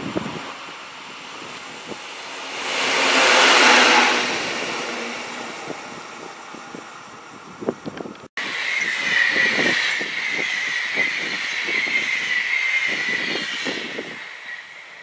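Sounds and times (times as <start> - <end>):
locomotive passing by: 0.0 - 15.0.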